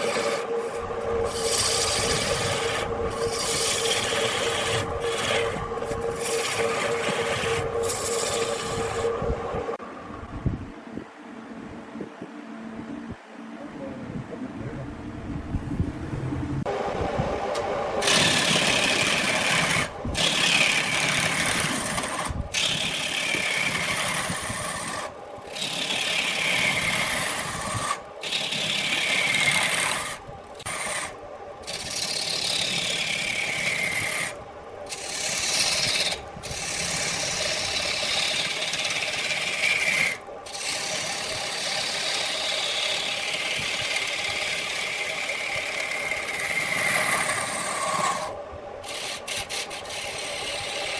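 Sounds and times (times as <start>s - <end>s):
lathe tool scraping wood: 0.0s - 9.8s, 18.0s - 50.9s.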